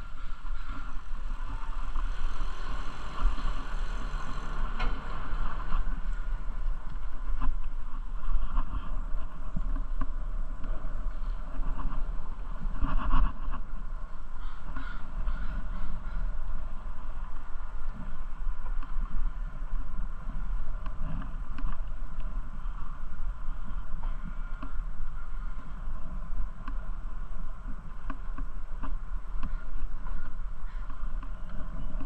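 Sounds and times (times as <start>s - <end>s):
bicycle ride rushing noise: 0.0s - 32.0s
wind rumble on microphone: 0.0s - 32.0s.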